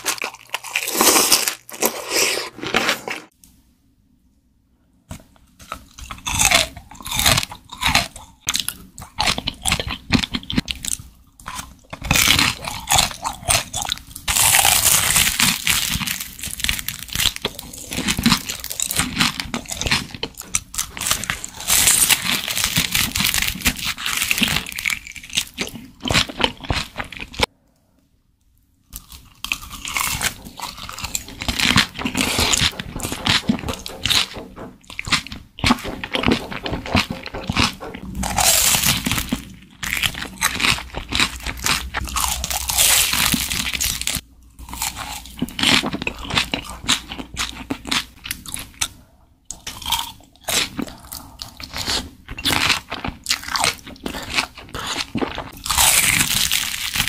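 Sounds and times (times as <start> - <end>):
crunching and chewing food: 0.0 - 3.2, 5.1 - 27.5, 28.8 - 57.0.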